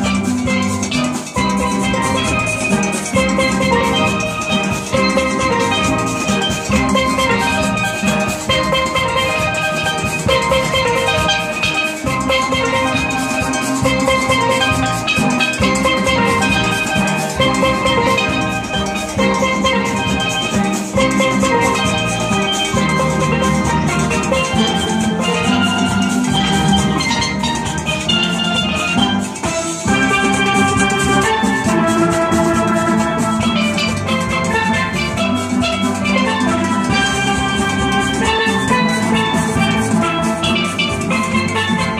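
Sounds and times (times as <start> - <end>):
steel band playing: 0.0 - 41.9.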